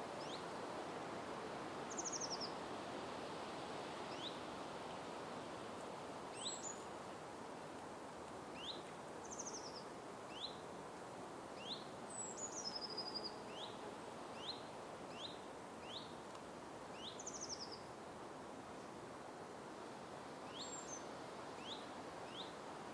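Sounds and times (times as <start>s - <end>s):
steady background hiss: 0.0s - 22.9s.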